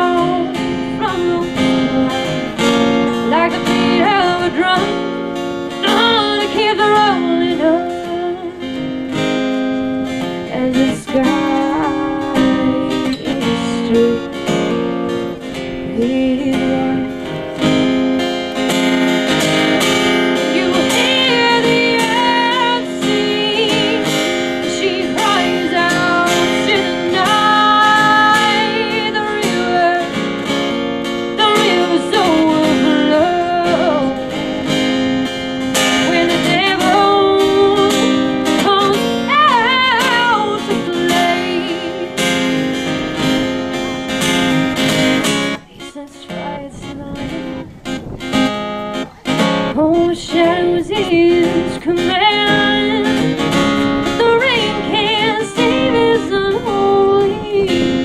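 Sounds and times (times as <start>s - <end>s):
woman singing: 0.0s - 35.1s, 35.7s - 43.5s, 44.8s - 47.8s, 49.4s - 58.0s
strummed acoustic guitar: 0.0s - 58.0s.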